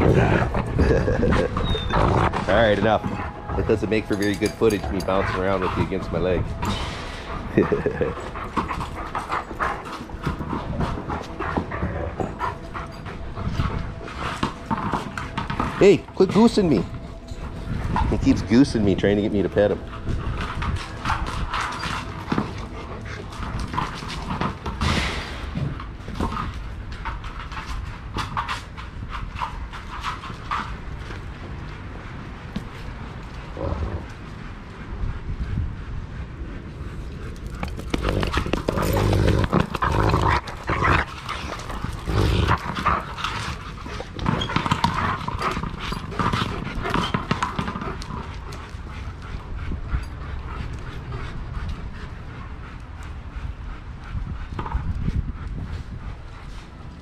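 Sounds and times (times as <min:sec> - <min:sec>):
dogs scuffling: 0:00.0 - 0:33.7, 0:36.7 - 0:51.6
dogs panting: 0:00.0 - 0:57.0.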